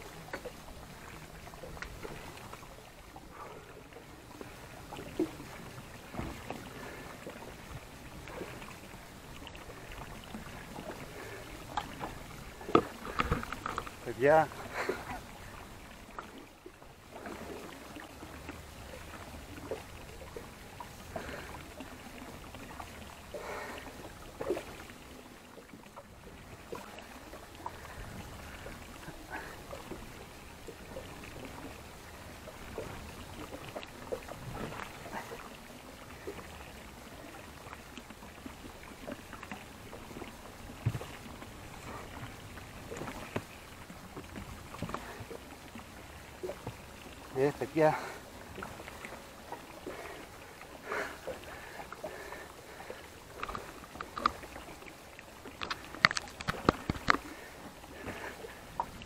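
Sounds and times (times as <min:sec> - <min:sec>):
water washing against boat: 0:00.0 - 0:59.0.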